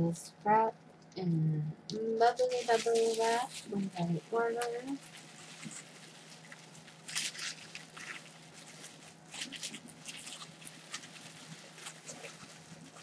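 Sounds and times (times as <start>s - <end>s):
bubble wrap crinkling: 2.0s - 13.0s.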